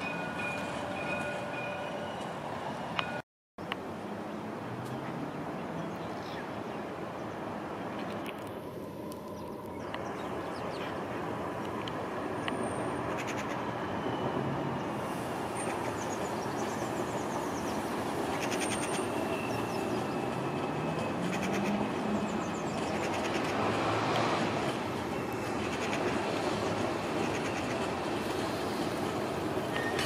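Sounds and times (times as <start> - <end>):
tram rumbling past on rails: 0.0 - 3.2, 3.8 - 30.0.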